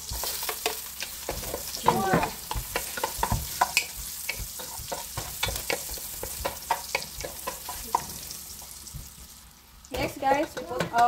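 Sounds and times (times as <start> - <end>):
ginger sizzling in hot oil: 0.0 - 11.0
wooden spoon stirring in a pan: 0.0 - 11.0.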